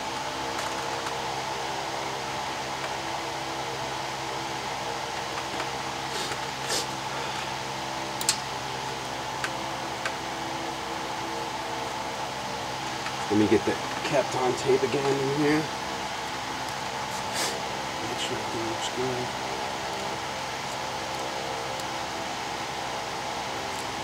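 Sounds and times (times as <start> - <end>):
fan whirring: 0.0 - 24.0
low electrical hum: 0.0 - 24.0.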